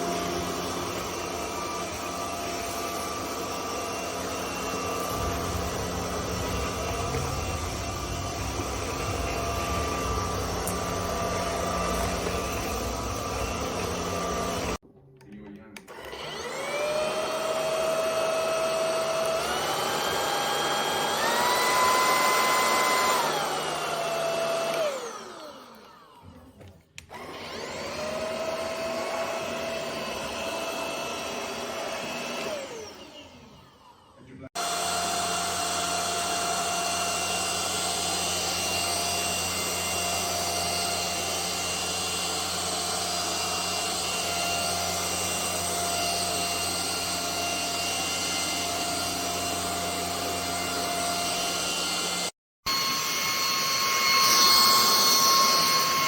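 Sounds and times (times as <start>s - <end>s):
vacuum cleaner motor whine: 0.0s - 14.8s, 15.8s - 56.0s.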